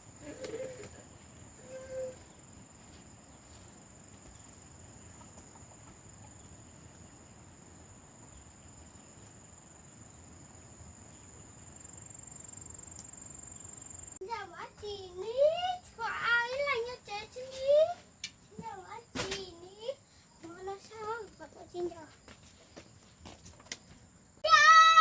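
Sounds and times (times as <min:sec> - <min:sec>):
insects trilling: 0:00.0 - 0:23.1.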